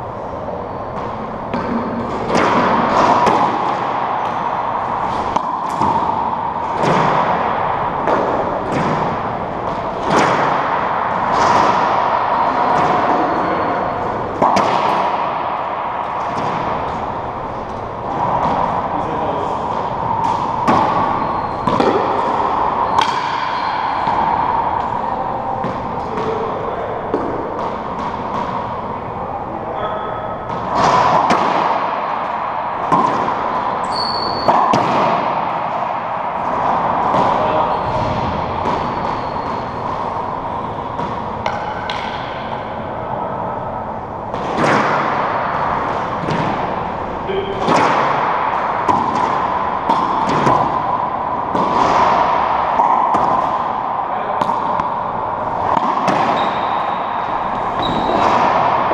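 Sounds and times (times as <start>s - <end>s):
racquetball ball hits ringing: 0.9s - 28.9s, 29.8s - 58.9s.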